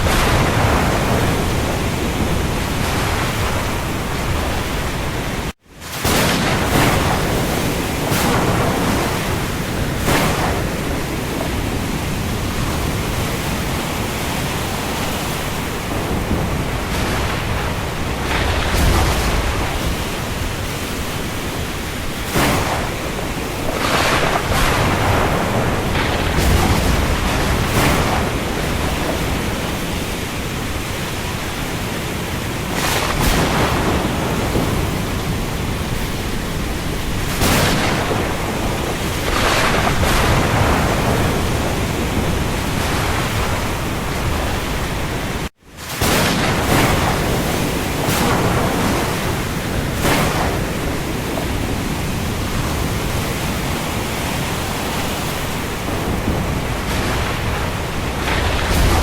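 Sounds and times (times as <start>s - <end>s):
waves surging: 0.0s - 59.0s.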